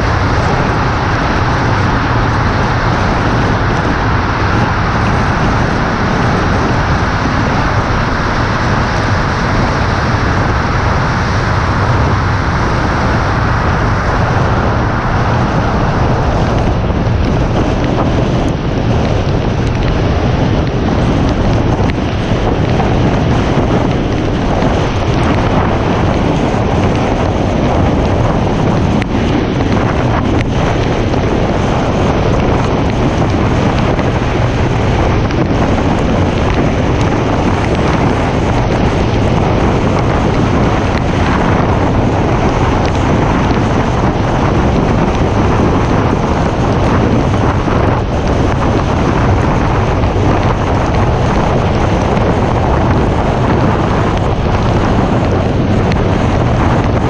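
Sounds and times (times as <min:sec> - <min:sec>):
low road rumble: 0:00.0 - 0:57.0
tyre noise on wet road: 0:00.0 - 0:57.0
wind buffeting microphone: 0:00.0 - 0:57.0.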